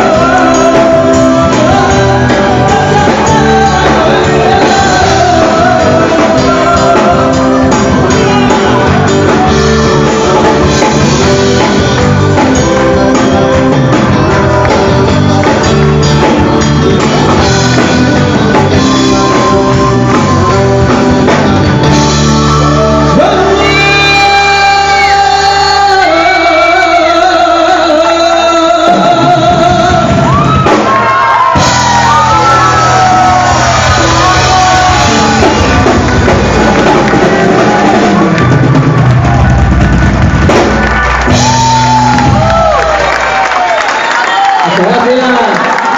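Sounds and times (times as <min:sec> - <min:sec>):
person singing: 0:00.0 - 0:30.8, 0:31.6 - 0:38.8
live rock band playing: 0:00.0 - 0:45.9.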